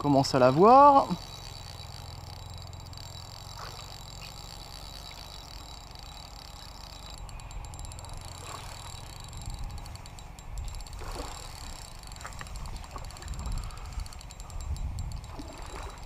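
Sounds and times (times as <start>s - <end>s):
fishing reel ticking: 0.0s - 16.0s
steady low hum: 0.0s - 16.0s.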